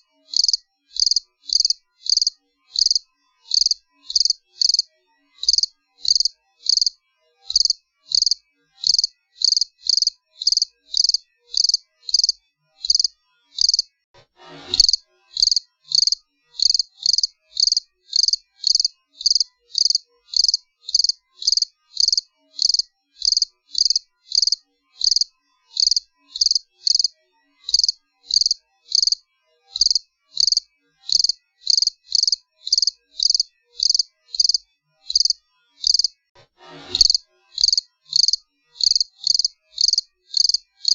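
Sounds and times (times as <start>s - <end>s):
cricket chirping: 0.3s - 13.9s, 14.8s - 27.1s, 27.7s - 29.2s, 29.8s - 36.1s, 37.0s - 40.9s.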